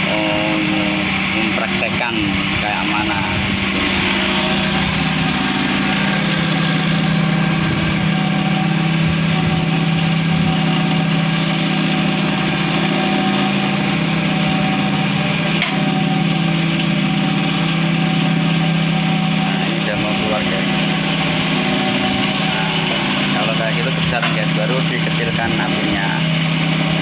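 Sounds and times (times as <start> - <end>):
cotton candy machine humming: 0.0 - 27.0.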